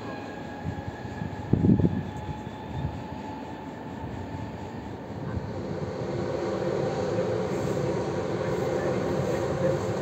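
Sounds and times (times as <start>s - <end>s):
electric train approaching: 0.0s - 10.0s.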